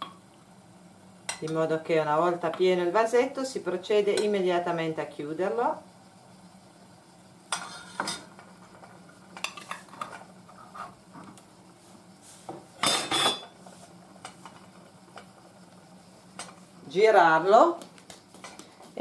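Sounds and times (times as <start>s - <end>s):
boiling liquid: 0.0s - 18.9s.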